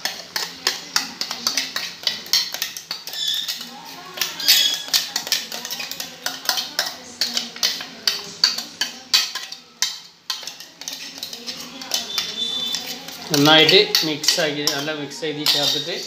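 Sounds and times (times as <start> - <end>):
steel utensils clinking on pot: 0.0 - 16.0.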